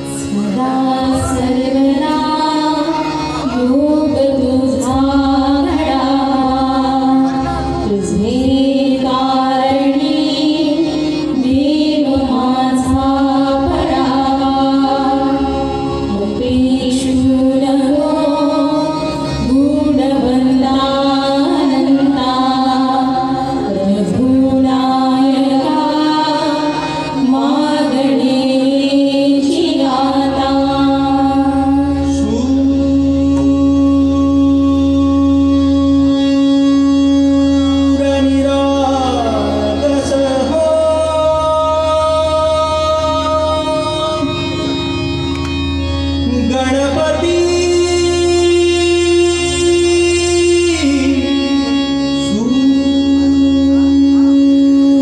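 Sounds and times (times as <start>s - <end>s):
person singing: 0.0s - 44.8s, 46.2s - 55.0s
sustained instrumental accompaniment: 0.0s - 55.0s.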